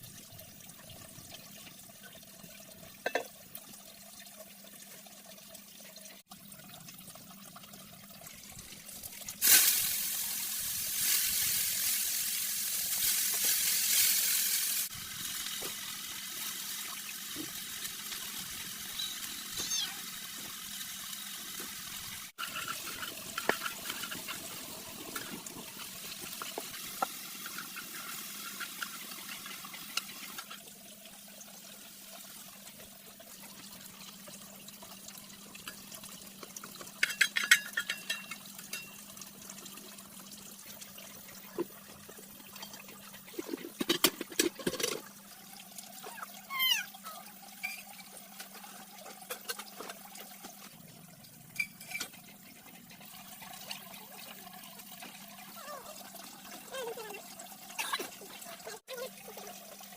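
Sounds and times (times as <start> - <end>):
water running and splashing: 0.0 - 59.9.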